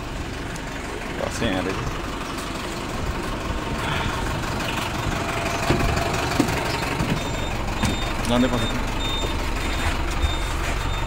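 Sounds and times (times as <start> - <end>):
bus engine idling: 0.0 - 11.0
street noise: 0.0 - 11.0.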